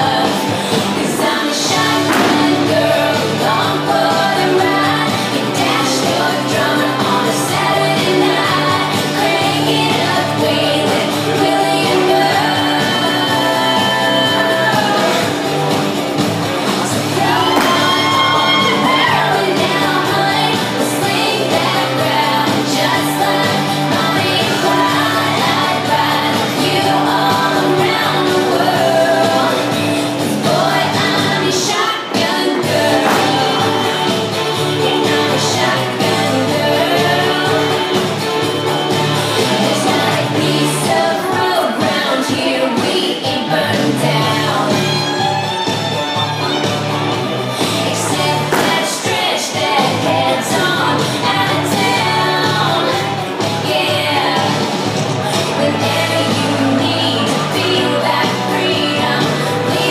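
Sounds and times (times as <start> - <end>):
loud song with singing: 0.0 - 59.9.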